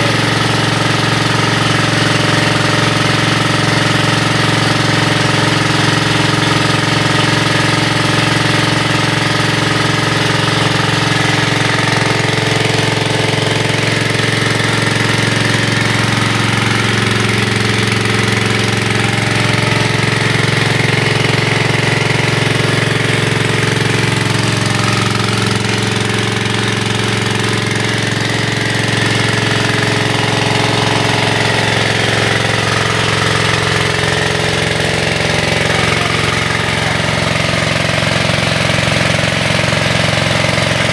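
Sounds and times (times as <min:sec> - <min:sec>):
small diesel engine running: 0:00.0 - 0:40.9.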